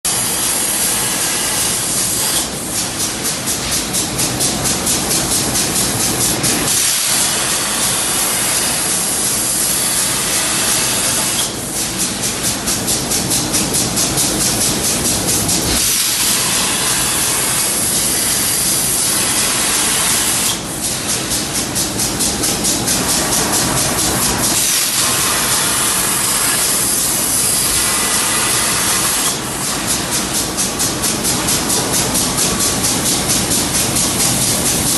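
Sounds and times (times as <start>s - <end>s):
plasma torch cutting steel: 0.1s - 34.9s.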